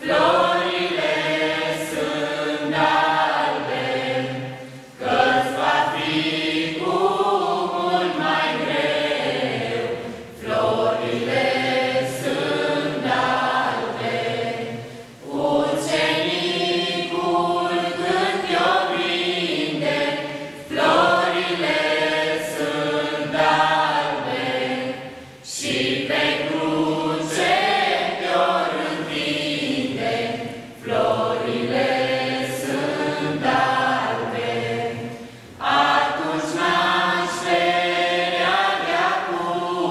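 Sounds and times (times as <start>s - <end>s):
group singing a carol: 0.0s - 39.9s.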